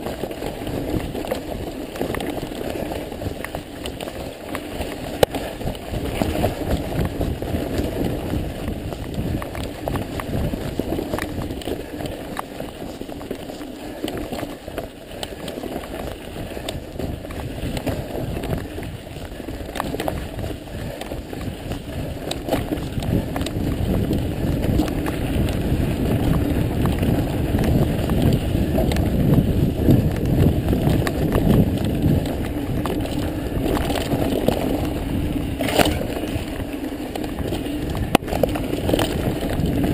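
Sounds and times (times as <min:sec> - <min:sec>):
bike rattles and clicks: 0:00.0 - 0:39.9
bike tyres rumbling on dirt: 0:00.0 - 0:39.9.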